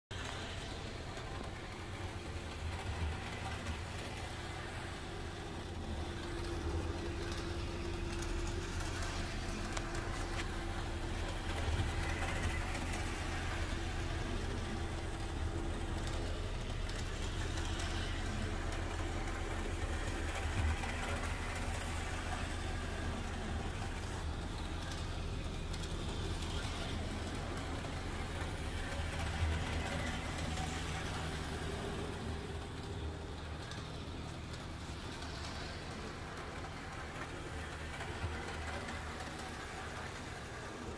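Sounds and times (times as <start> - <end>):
model train motor and wheels: 0.1 - 40.9.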